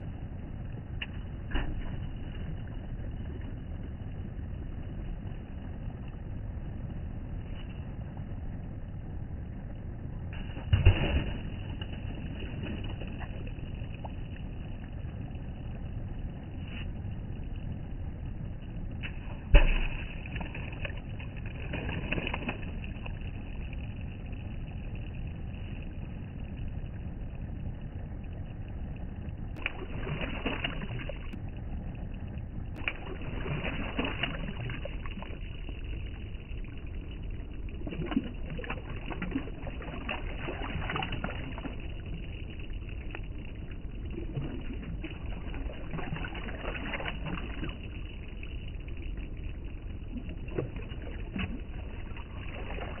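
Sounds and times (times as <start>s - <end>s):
low outdoor rumble: 0.0s - 53.0s.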